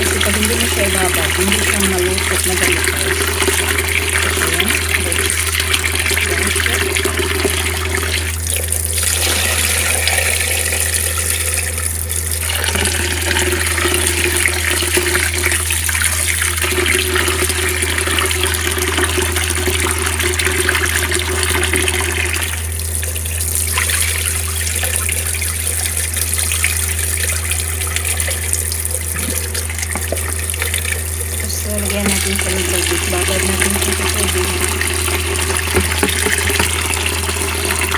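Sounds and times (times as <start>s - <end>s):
steady low hum: 0.0s - 37.9s
tap water pouring into basin: 0.0s - 37.9s.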